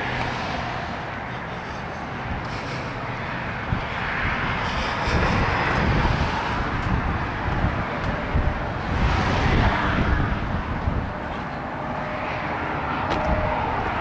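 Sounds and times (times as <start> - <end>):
steady outdoor hiss: 0.0 - 12.9
wind buffeting microphone: 2.0 - 14.0.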